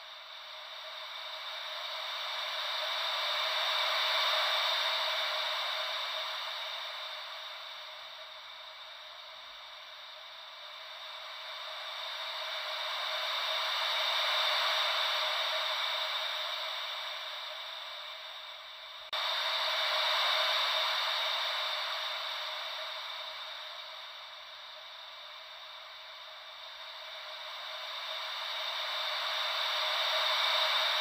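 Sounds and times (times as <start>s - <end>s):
ocean wave white noise hiss: 0.0s - 31.0s.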